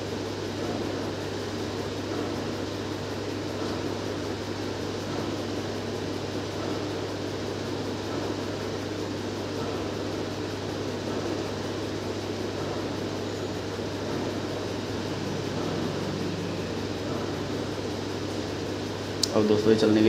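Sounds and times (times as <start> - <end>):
steady hum and whir: 0.0 - 20.0.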